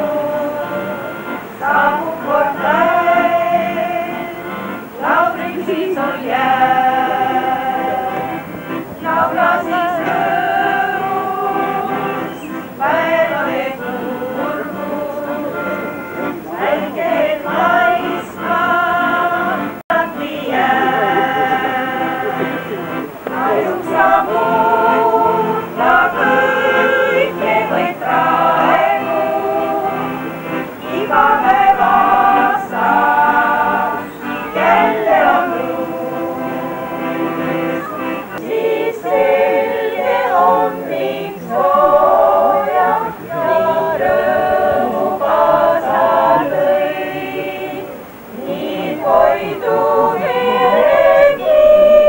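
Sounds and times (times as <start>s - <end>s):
women singing in unison: 0.0s - 52.0s.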